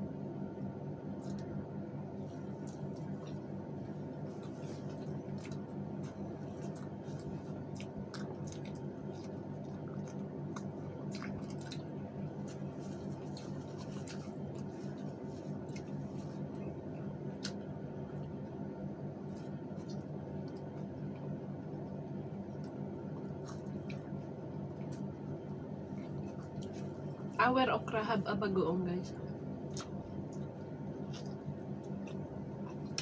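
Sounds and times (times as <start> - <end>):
steady low hum: 0.0 - 33.0
people chewing food: 1.1 - 27.4, 29.1 - 33.0.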